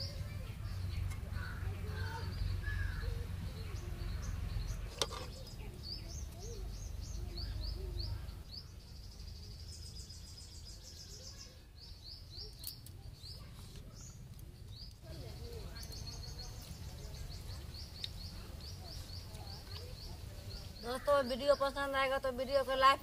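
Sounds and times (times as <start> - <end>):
small bird chirping: 0.0 - 22.6.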